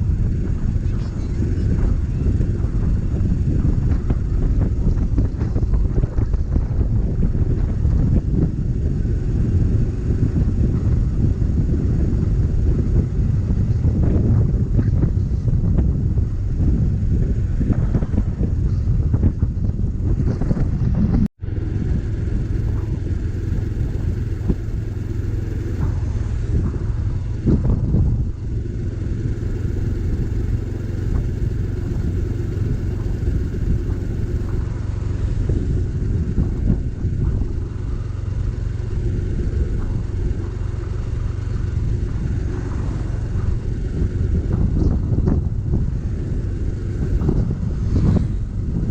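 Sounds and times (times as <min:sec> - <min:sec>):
motorcycle engine running: 0:00.0 - 0:48.9
wind rumble on microphone: 0:00.0 - 0:48.9.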